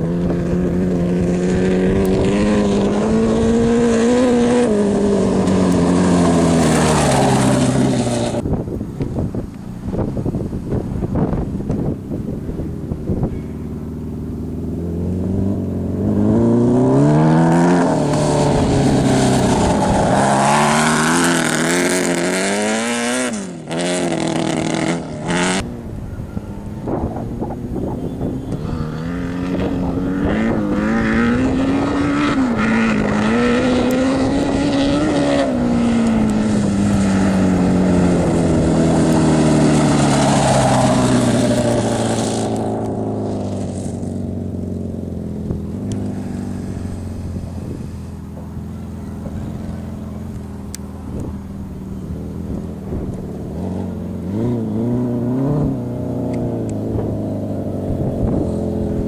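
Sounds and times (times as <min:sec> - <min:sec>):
motorcycle engine revving: 0:00.0 - 0:08.6, 0:09.2 - 0:59.0.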